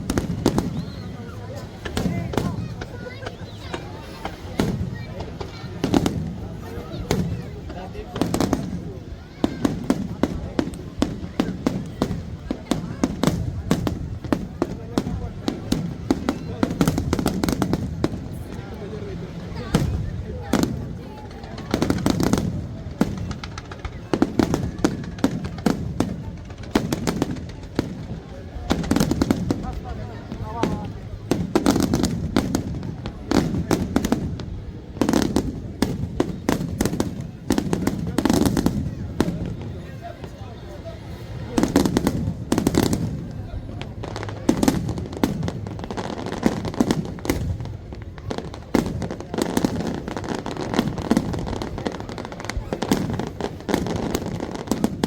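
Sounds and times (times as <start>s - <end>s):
fireworks bursting with sharp bangs: 0.0s - 55.0s
low rumble of explosions: 0.0s - 55.0s.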